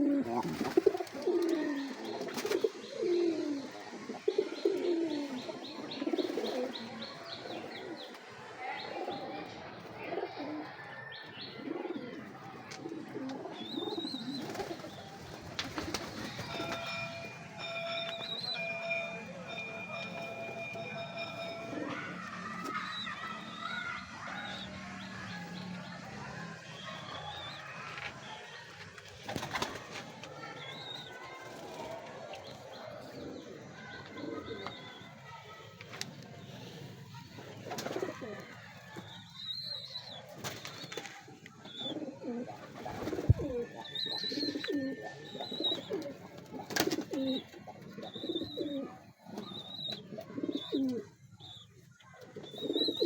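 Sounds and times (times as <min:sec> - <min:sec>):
pigeons cooing: 0:00.0 - 0:28.1, 0:30.8 - 0:35.4, 0:36.0 - 0:53.0.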